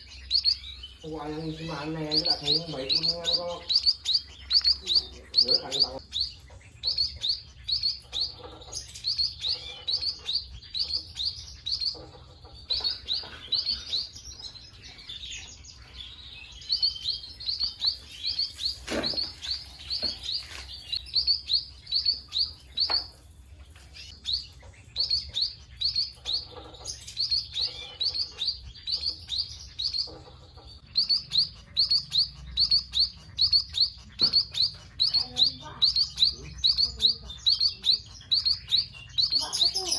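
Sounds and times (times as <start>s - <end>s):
birds chirping high notes: 0.0s - 39.9s.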